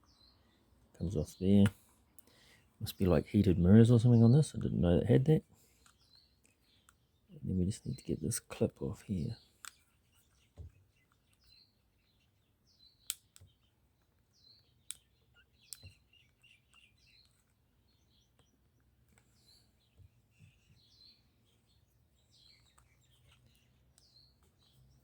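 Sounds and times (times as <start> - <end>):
faint birds chirping: 0.0 - 25.0.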